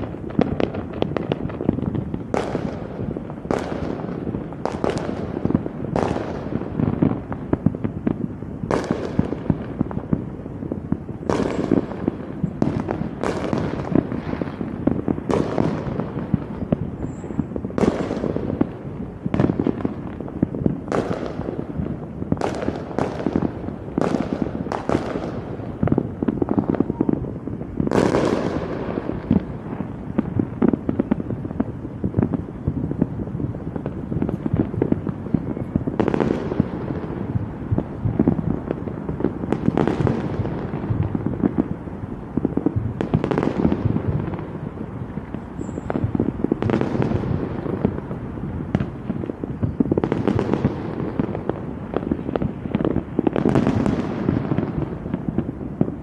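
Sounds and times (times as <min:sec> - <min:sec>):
crackle of small explosions: 0:00.0 - 0:56.0
fireworks bangs: 0:00.0 - 0:56.0.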